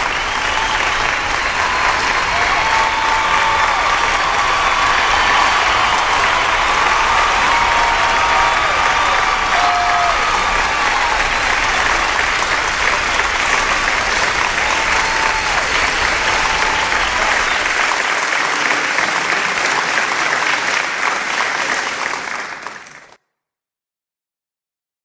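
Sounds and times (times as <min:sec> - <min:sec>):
crowd applauding: 0:00.0 - 0:23.2.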